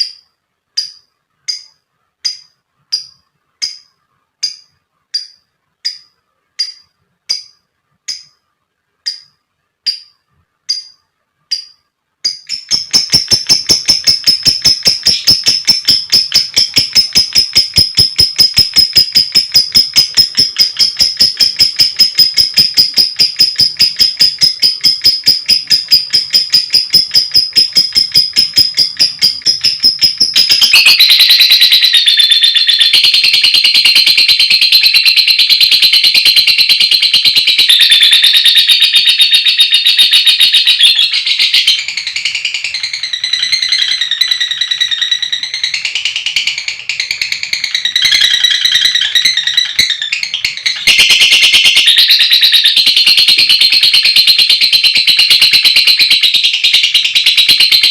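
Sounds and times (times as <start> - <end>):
lovebird chirping: 0.0 - 57.9.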